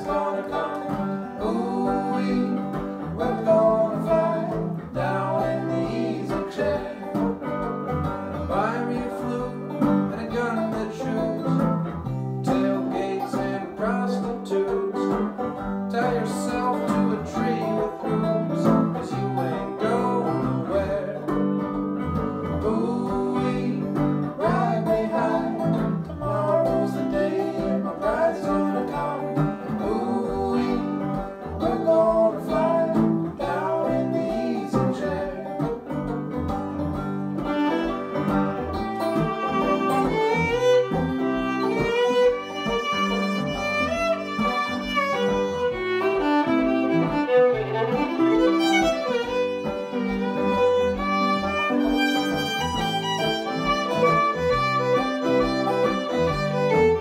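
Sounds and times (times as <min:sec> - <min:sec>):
banjo: 0:00.0 - 0:57.0
fiddle playing lead melody: 0:00.0 - 0:57.0
strummed guitar: 0:00.0 - 0:57.0.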